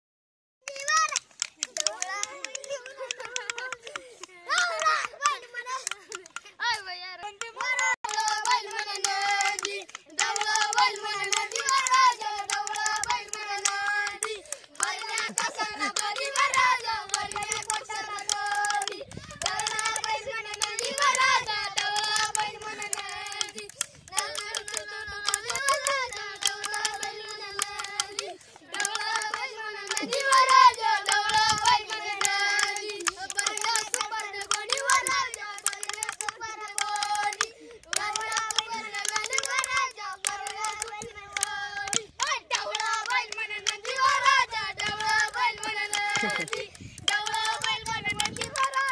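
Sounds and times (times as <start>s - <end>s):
boy singing: 1.8s - 48.9s.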